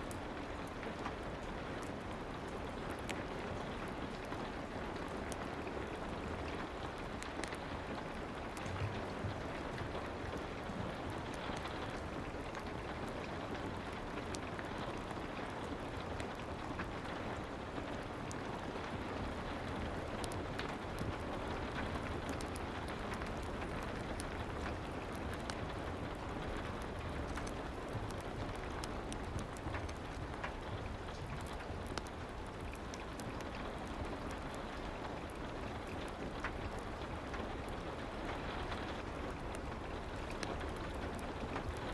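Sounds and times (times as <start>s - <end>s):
fireplace crackles: 0.0s - 41.9s
soft rain: 0.0s - 41.9s.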